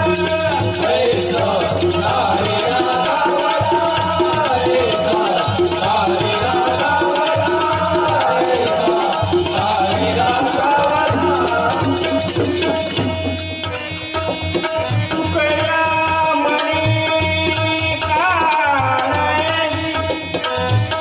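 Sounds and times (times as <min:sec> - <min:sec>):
devotional group melody: 0:00.0 - 0:21.0
jingling hand percussion: 0:00.0 - 0:21.0
tabla: 0:00.0 - 0:21.0.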